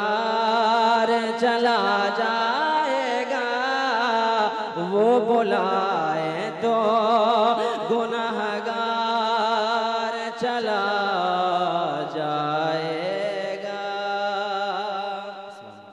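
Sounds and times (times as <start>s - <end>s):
man singing through microphone: 0.0s - 15.9s.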